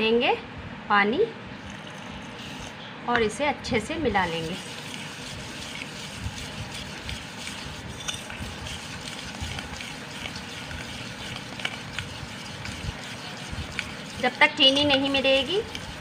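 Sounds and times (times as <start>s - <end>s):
spoon scraping paste in bowl: 1.7s - 2.8s, 4.1s - 16.0s.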